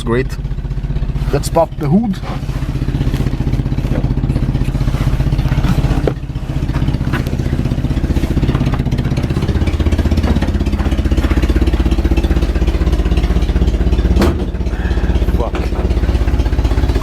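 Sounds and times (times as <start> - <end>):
car engine idling: 0.0 - 17.0
hood clicks and clunks: 0.3 - 17.0.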